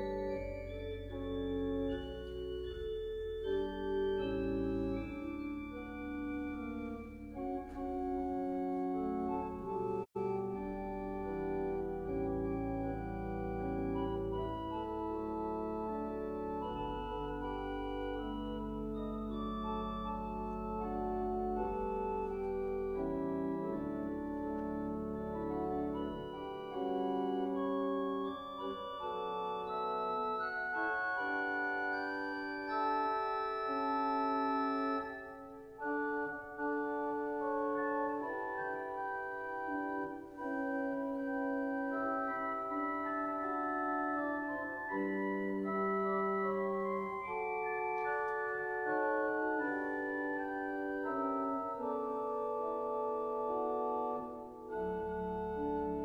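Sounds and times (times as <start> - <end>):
organ playing sustained chords: 0.0 - 56.0.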